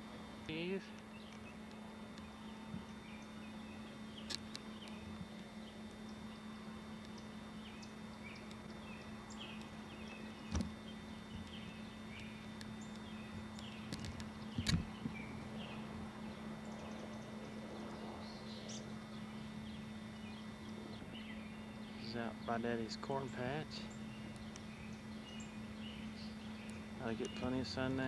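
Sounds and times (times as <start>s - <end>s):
small birds chirping: 0.0s - 28.0s
steady low hum: 0.0s - 28.0s.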